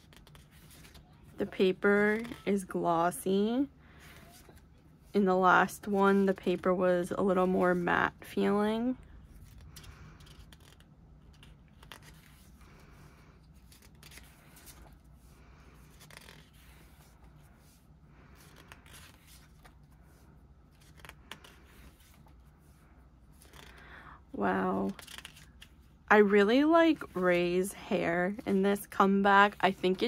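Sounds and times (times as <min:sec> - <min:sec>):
photo book pages turning: 0:00.0 - 0:02.8, 0:03.9 - 0:24.0, 0:24.7 - 0:30.0.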